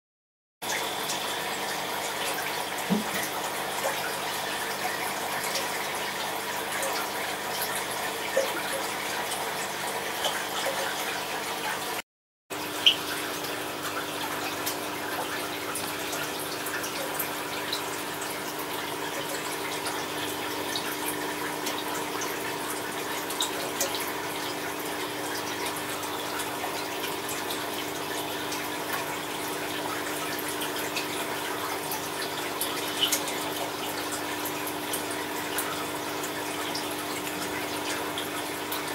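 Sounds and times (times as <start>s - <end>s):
pump hum: 0.6s - 38.9s
running water: 0.6s - 38.9s.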